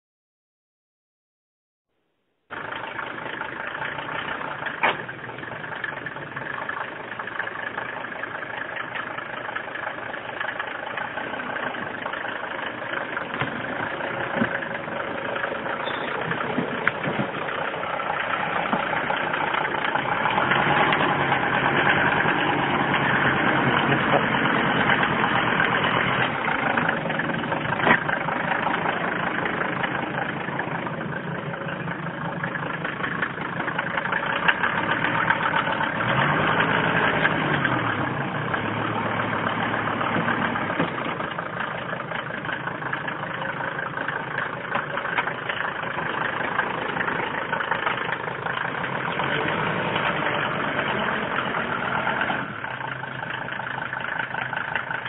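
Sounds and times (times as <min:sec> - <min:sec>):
off-road vehicle engine running: 0:02.5 - 0:55.0.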